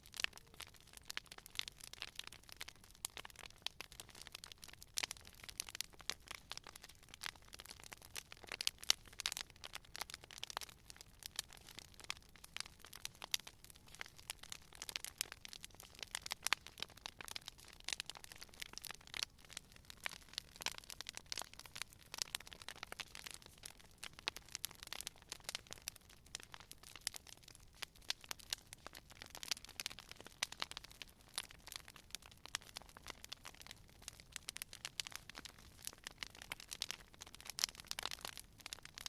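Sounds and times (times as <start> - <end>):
campfire wood crackling and popping: 0.0 - 39.0
faint hiss of burning: 0.0 - 39.0.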